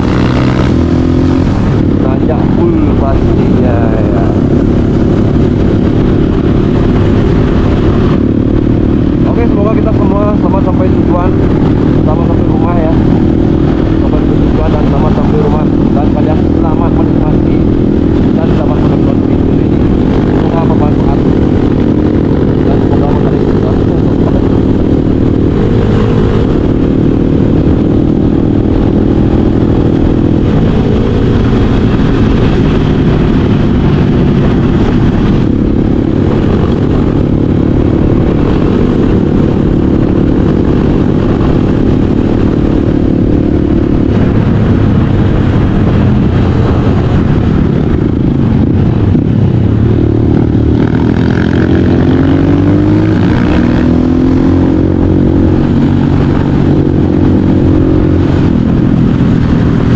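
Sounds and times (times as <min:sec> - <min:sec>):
motorcycle engine under load: 0:00.0 - 0:59.9.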